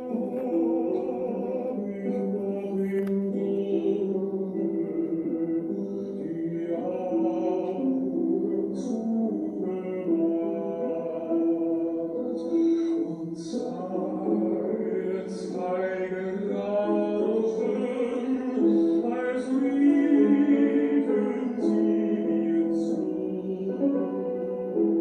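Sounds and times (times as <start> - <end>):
person singing long notes: 0.0 - 25.0
slow music: 0.0 - 25.0.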